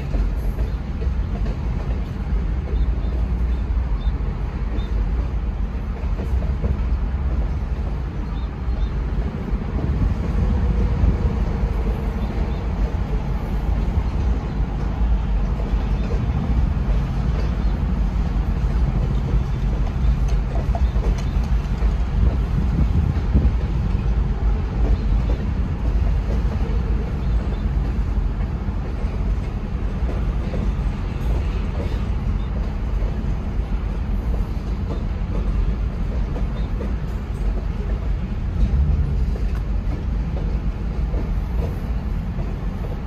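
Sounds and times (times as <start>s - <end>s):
steel train wheels rumbling on rail: 0.0s - 43.0s.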